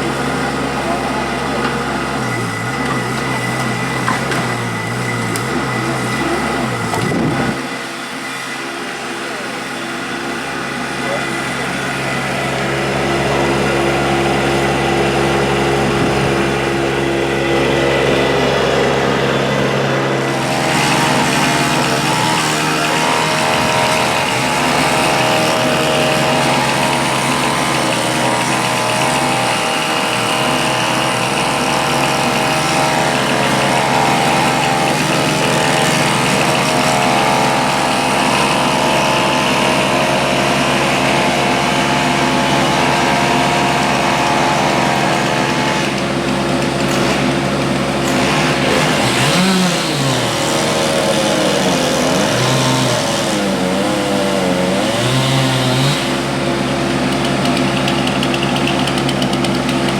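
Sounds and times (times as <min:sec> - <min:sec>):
machinery engine running: 0:00.0 - 0:59.9.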